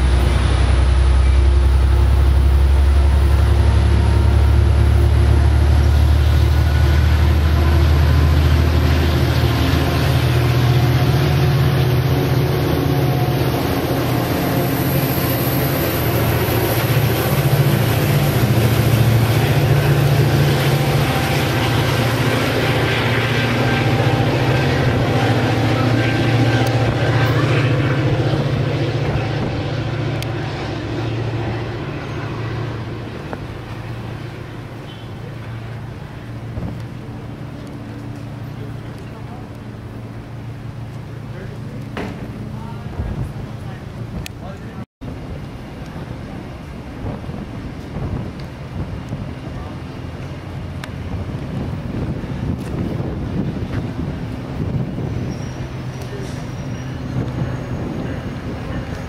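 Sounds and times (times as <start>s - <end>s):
diesel locomotive drone: 0.0s - 59.0s
train wheel and rail noise: 0.0s - 59.0s.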